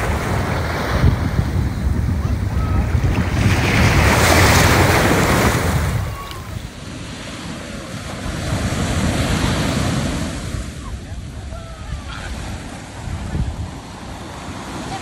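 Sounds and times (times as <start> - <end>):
surf breaking on beach: 0.0 - 15.0
wind on microphone: 0.0 - 15.0.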